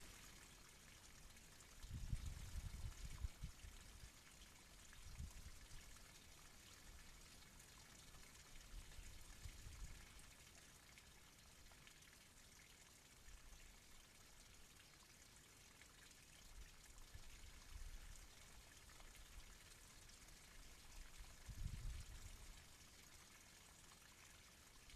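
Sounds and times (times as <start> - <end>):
faint steady hiss: 0.0 - 24.9.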